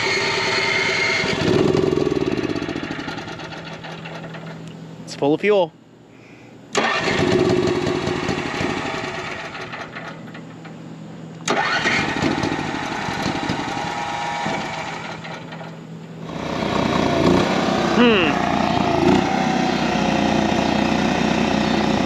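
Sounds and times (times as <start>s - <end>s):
generator starter cranking: 0.0s - 4.7s, 6.7s - 10.8s, 11.4s - 22.0s
generator running: 0.0s - 5.0s, 6.7s - 22.0s.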